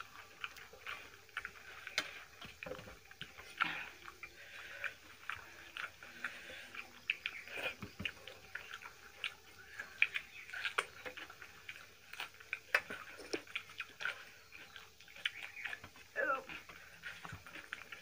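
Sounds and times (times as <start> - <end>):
chewing and lip-smacking: 0.0 - 18.0.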